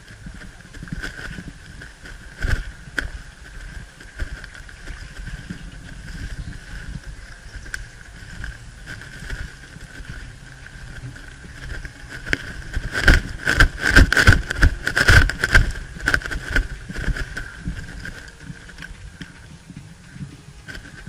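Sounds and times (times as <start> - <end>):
branches brushing against camera: 0.0 - 21.0
footsteps crunching undergrowth: 0.0 - 21.0.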